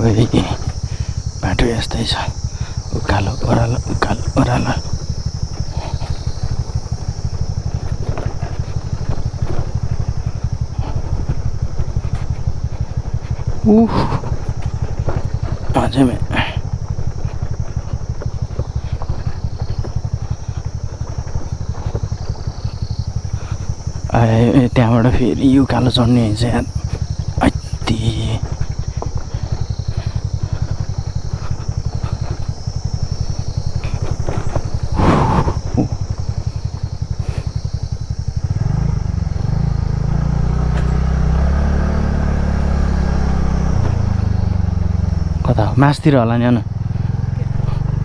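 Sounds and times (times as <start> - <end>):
insects droning: 0.0 - 48.0
scooter engine running: 0.0 - 48.0.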